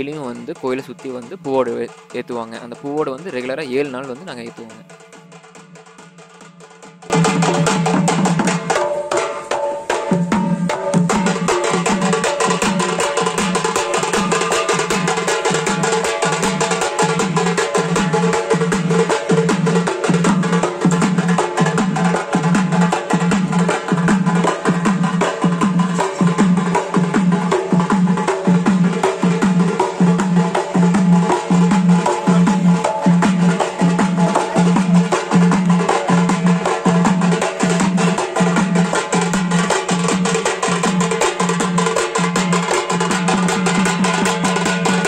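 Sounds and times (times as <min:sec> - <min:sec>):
barrel drums played by hand: 0:00.0 - 0:45.0.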